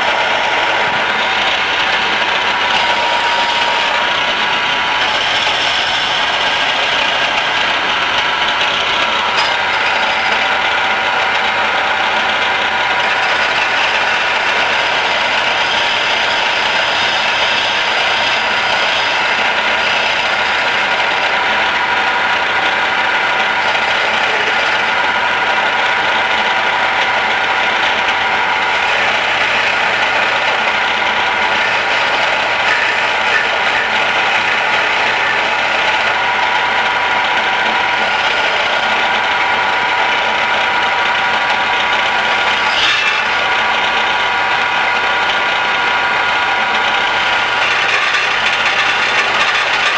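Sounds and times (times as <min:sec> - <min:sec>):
turning tool cutting wood: 0:00.0 - 0:49.9
wood lathe running: 0:00.0 - 0:49.9.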